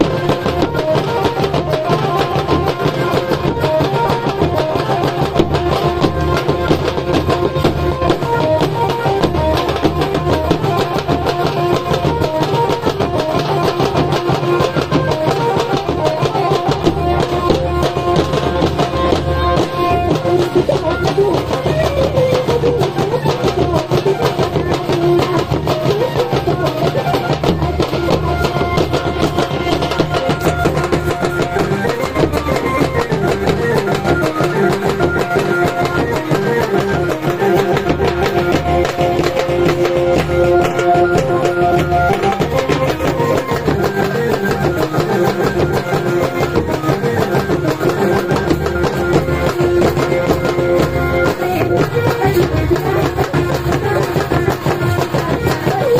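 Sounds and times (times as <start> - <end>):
folk drums playing: 0.0 - 55.9
held melody line: 0.0 - 55.9.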